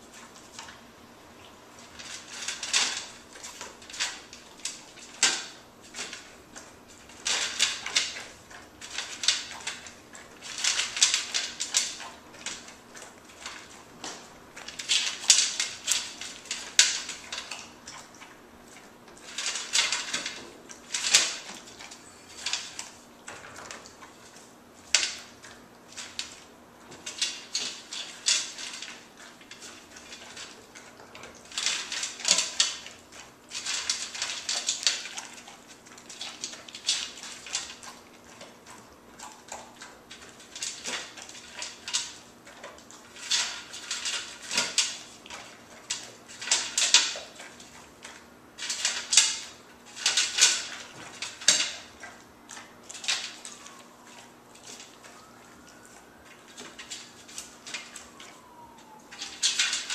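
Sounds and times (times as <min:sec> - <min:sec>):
dog crunching food: 0:00.0 - 0:59.9.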